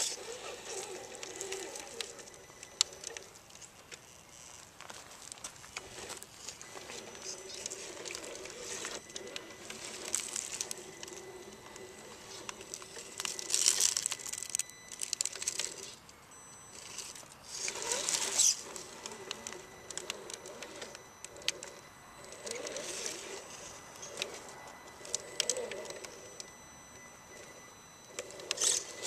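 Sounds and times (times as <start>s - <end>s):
grinding and scraping on rock: 0.0s - 14.4s, 16.7s - 26.3s, 28.1s - 29.0s
rc crawler clicks on rock: 0.0s - 16.2s, 16.8s - 26.5s, 27.3s - 29.0s.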